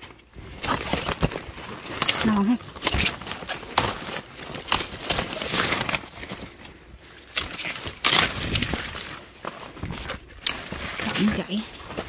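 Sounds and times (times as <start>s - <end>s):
leaves rustling: 0.0s - 12.0s
leaves snapping off stalks: 0.0s - 12.0s.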